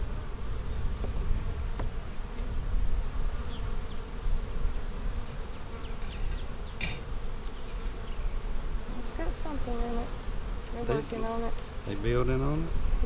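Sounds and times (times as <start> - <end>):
bee flying past: 0.0 - 13.0
honey bees buzzing: 0.0 - 13.0.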